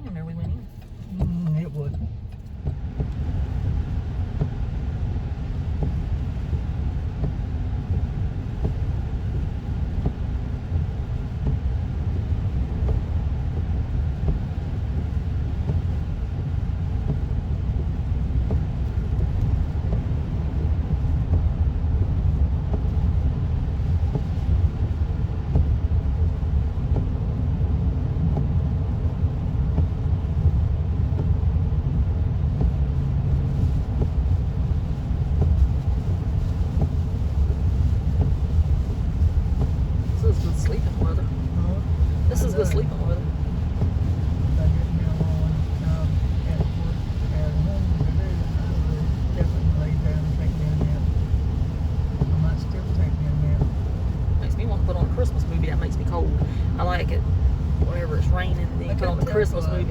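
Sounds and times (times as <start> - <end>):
car driving on wet road: 0.0 - 59.9
heavy rain: 2.9 - 59.9.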